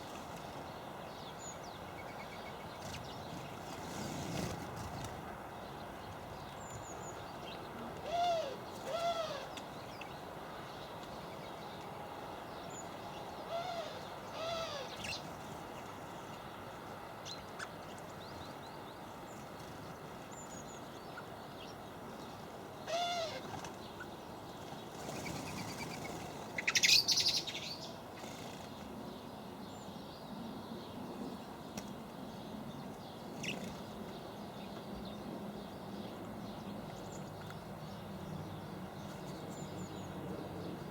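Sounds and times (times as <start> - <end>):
birds calling: 0.0 - 40.9.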